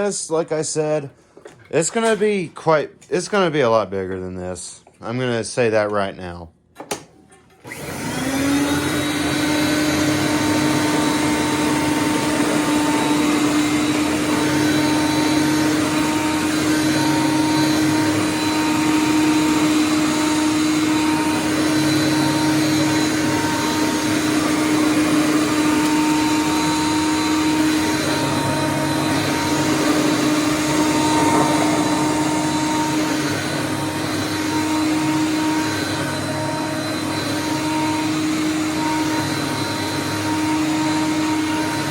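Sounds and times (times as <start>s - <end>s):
vacuum cleaner running: 6.8s - 41.9s.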